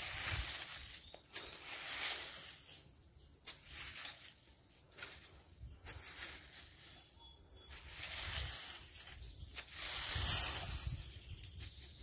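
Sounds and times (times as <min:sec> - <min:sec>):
rake scraping through dry leaves: 0:00.0 - 0:12.0.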